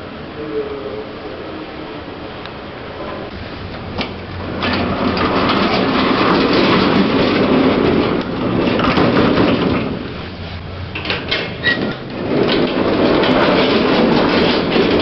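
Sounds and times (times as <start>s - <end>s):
lift rumbling and rattling: 0.0s - 15.0s.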